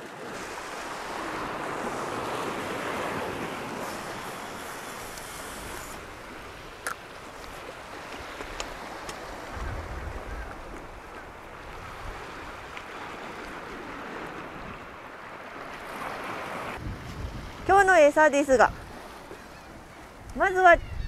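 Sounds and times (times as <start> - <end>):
wind on microphone: 0.0 - 15.0, 15.8 - 21.0
surf washing against rocks: 0.0 - 20.8.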